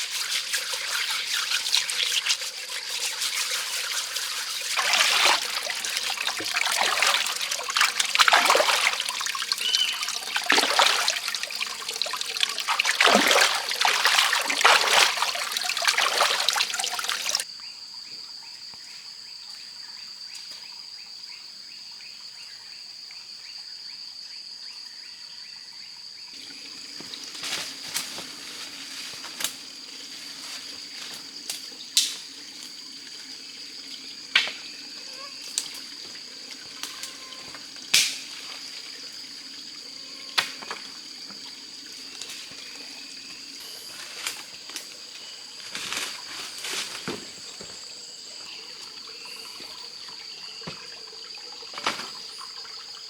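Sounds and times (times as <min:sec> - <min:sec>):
water trickling and splashing: 0:00.0 - 0:17.5, 0:26.3 - 0:53.0.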